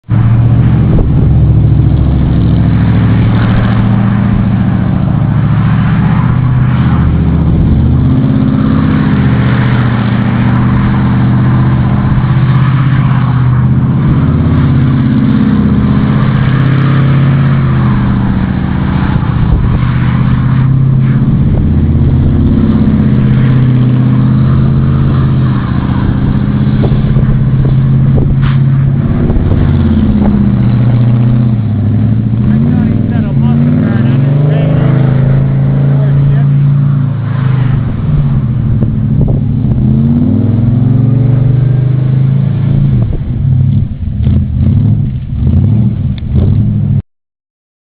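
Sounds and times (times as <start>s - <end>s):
car engine revving hard: 0.0s - 47.0s.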